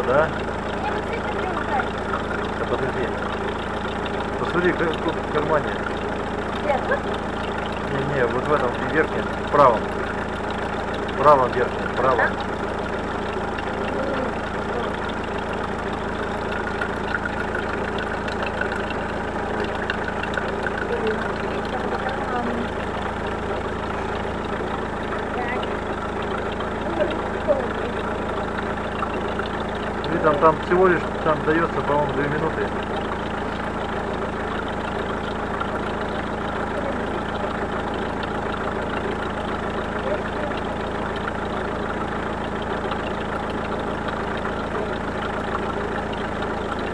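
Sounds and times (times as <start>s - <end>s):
car engine idling: 0.0s - 46.9s
light engine ticking: 0.0s - 46.9s
valve lifters tapping: 0.0s - 46.9s.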